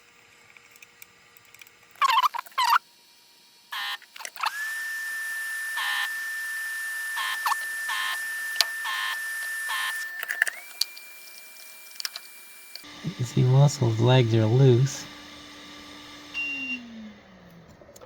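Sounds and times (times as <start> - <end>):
desoldering pump whine and hiss: 2.8 - 17.7.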